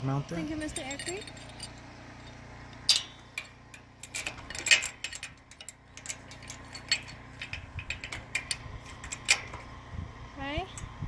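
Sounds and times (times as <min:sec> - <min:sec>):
metal bracket clinking: 0:00.3 - 0:09.7.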